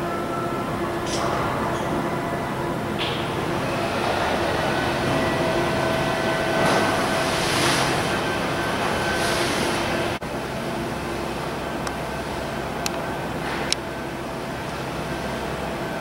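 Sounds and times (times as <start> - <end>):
low even hum: 0.0 - 16.0.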